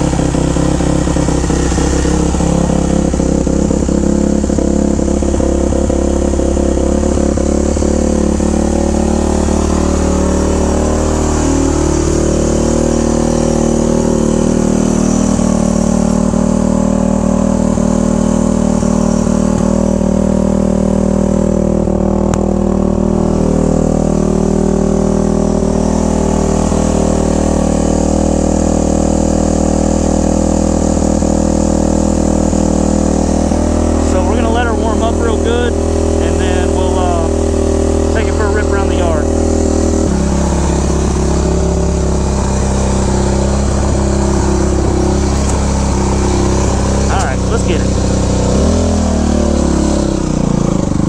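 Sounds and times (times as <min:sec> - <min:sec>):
motorcycle engine idling: 0:00.0 - 0:51.0.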